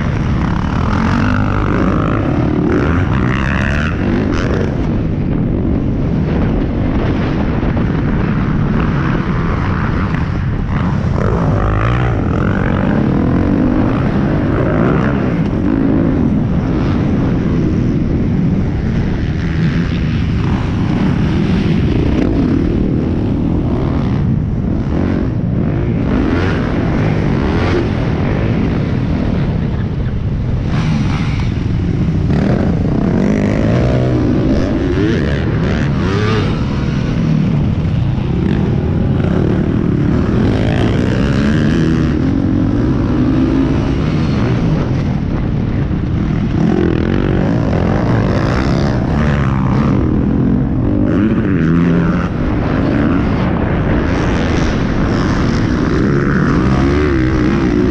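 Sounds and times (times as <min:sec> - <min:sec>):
dirt bike engine revving: 0:00.0 - 0:05.3, 0:06.0 - 0:57.9
rough riding noise: 0:00.0 - 0:57.9.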